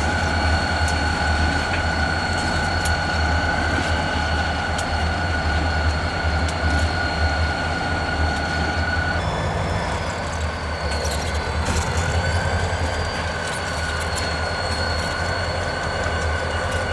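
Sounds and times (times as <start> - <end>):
diesel locomotives rumbling: 0.0 - 16.9
high-pitched wheel squeal: 0.0 - 16.9
wheels clicking on rails: 0.0 - 16.9.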